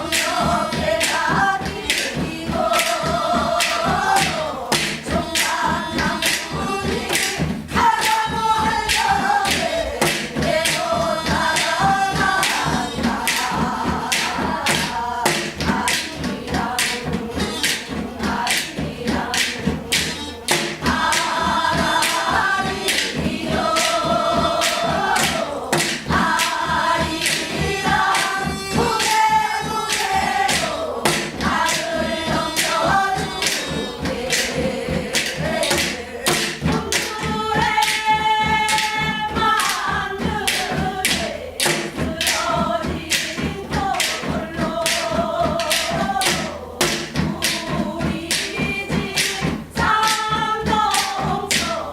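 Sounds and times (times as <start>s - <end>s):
drum beat: 0.0s - 51.9s
person singing folk song: 0.0s - 51.9s.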